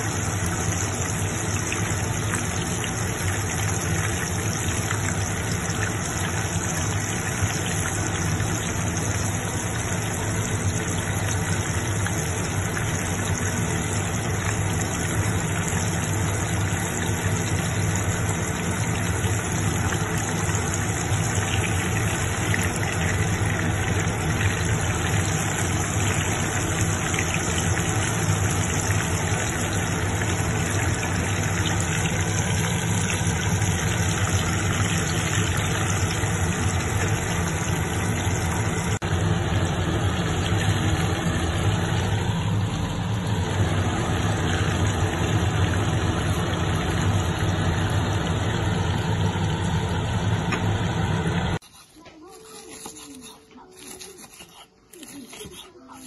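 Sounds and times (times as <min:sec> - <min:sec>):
frying oil sizzling and bubbling: 0:00.0 - 0:56.0.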